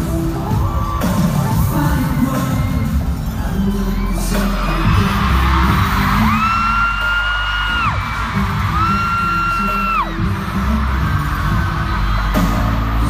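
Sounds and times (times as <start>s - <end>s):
live pop music: 0.0s - 13.0s.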